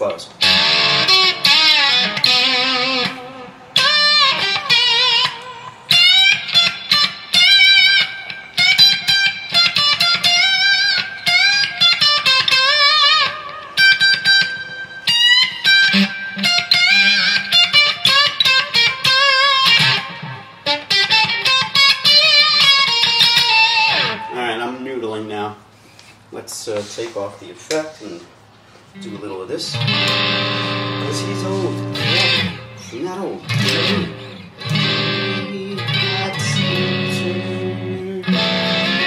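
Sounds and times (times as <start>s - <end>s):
distorted electric guitar lead: 0.0s - 24.4s, 29.0s - 39.0s.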